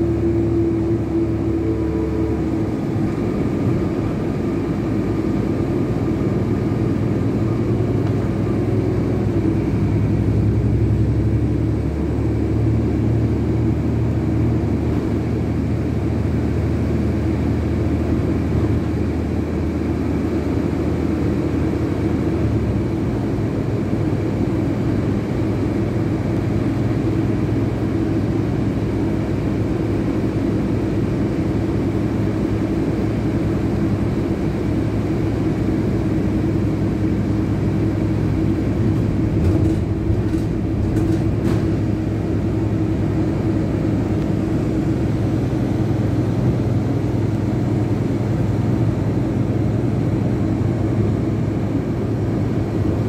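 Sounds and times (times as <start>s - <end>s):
low engine hum: 0.0s - 53.0s.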